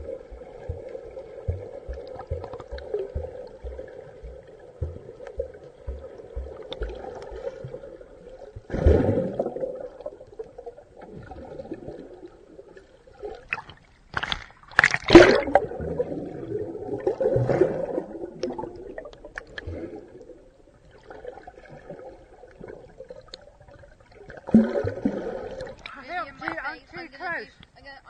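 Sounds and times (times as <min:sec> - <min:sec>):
underwater sloshing and gurgling: 0:00.0 - 0:26.1.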